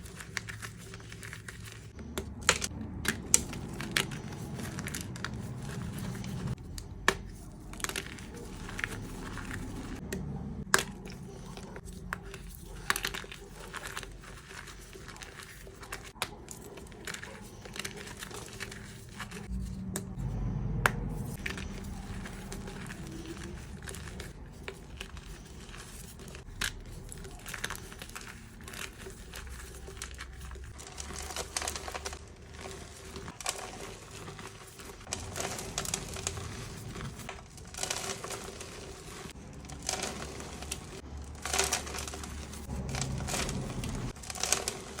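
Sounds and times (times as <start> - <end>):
chalk crunching: 0.0 - 45.0.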